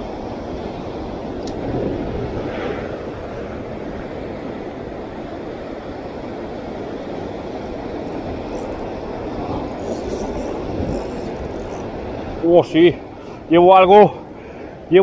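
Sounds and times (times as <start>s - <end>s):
sea surf breaking on rocks: 0.0s - 15.0s.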